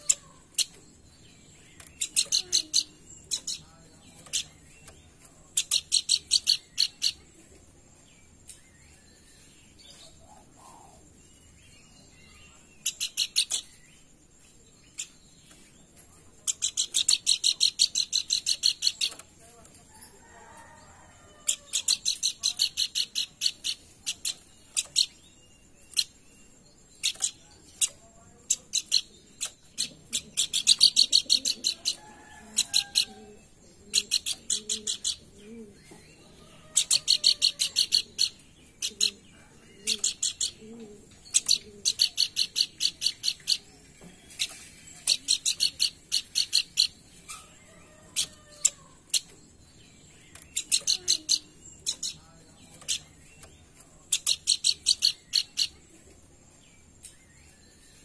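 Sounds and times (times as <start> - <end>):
bird chattering song: 0.0 - 7.4, 11.8 - 14.2, 14.8 - 20.1, 21.5 - 58.0.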